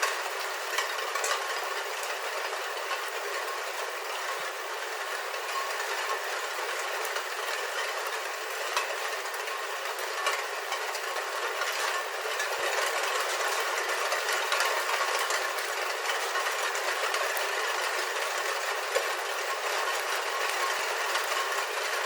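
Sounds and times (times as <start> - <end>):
rain pattering on a roof: 0.0 - 22.0.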